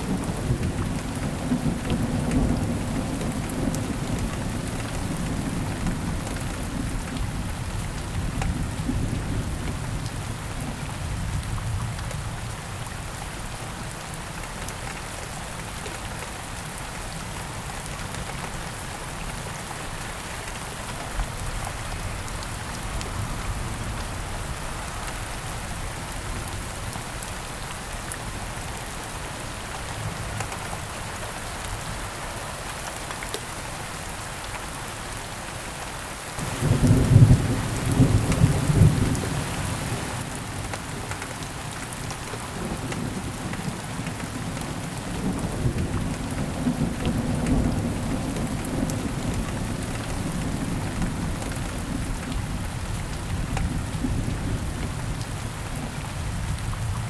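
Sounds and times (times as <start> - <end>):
heavy rain on canopy: 0.0 - 57.0.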